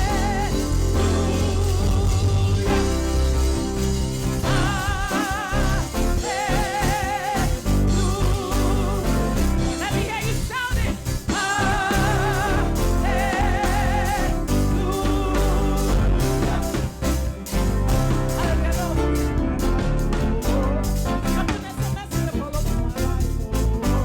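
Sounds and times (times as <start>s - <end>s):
band with bass and drums: 0.0s - 24.0s
person singing with vibrato: 0.0s - 24.0s.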